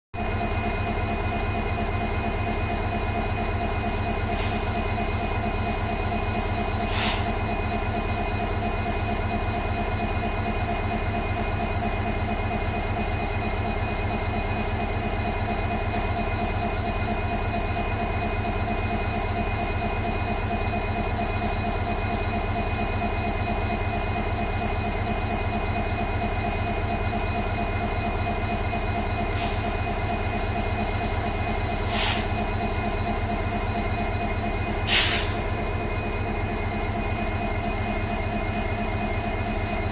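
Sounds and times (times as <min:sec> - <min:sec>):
locomotive engine idling: 0:00.2 - 0:39.9.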